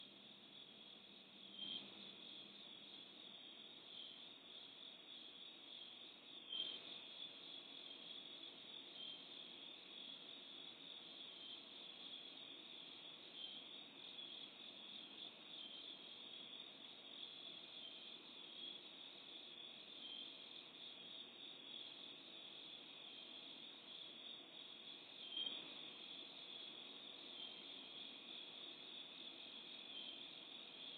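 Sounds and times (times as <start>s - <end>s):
crickets chirping: 0.0s - 30.9s.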